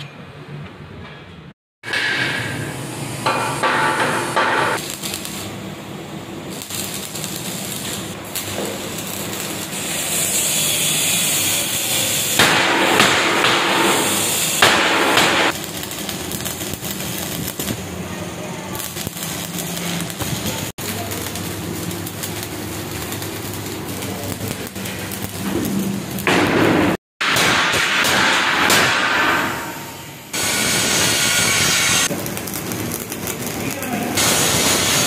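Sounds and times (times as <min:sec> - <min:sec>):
arc welding crackling: 0:02.7 - 0:35.0.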